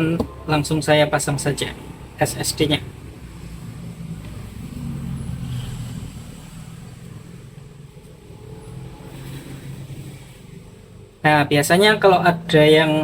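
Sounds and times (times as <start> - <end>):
vehicle engine passing by: 0.4 - 11.2.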